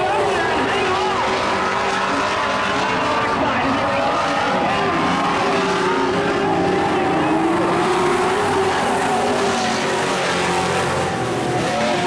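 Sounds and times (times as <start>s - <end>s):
race truck engines: 0.0s - 12.0s.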